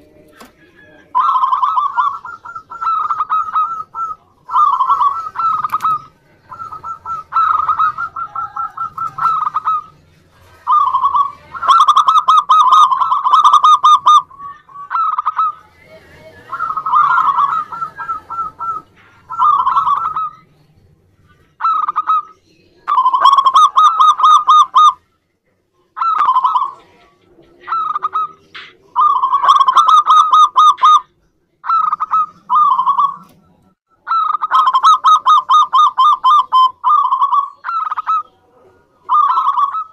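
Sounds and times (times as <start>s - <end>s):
dove cooing: 0.0s - 20.6s, 21.3s - 25.0s, 26.0s - 39.9s.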